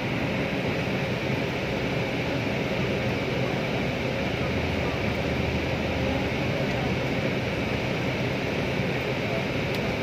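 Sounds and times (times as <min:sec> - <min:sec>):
bus rumble and hiss: 0:00.0 - 0:10.0.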